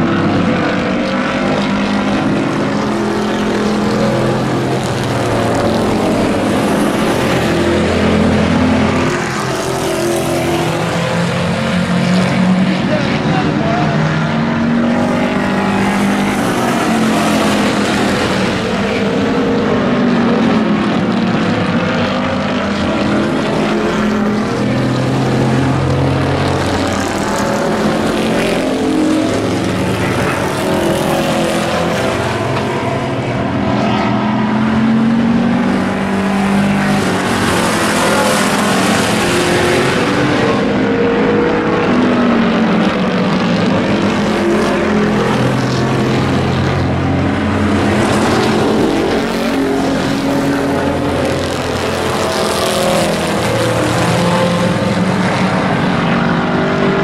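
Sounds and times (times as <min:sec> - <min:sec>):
race truck engines passing: 0:00.0 - 0:57.0.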